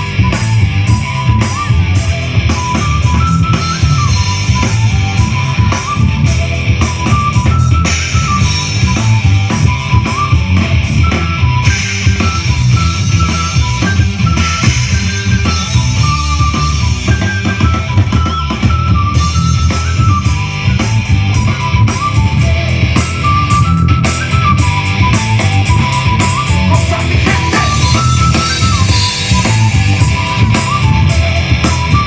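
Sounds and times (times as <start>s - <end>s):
distorted electric guitars: 0.0s - 32.0s
drum kit beat: 0.0s - 32.0s
high held melody line: 0.0s - 32.0s.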